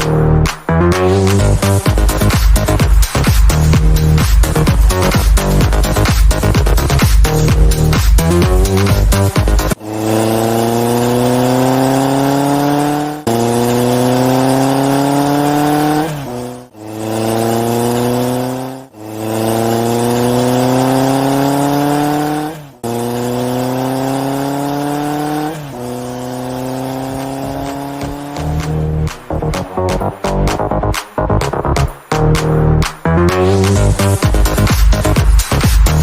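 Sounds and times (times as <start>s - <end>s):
race car engine accelerating: 0.0s - 36.0s.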